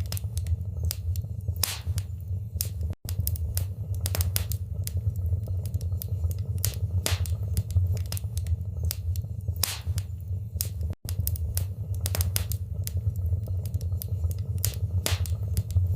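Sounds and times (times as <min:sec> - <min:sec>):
pops and snaps of burning wood: 0:00.0 - 0:15.9
wood fire crackling: 0:00.0 - 0:15.9.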